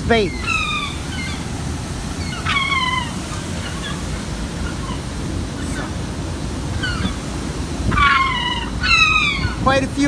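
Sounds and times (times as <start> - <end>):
gulls calling in alarm: 0.0 - 10.0
wind rumble on microphone: 0.0 - 10.0.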